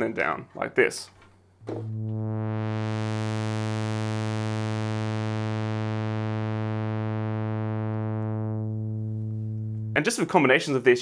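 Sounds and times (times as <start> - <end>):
low buzzy synthesizer note: 1.6 - 11.0.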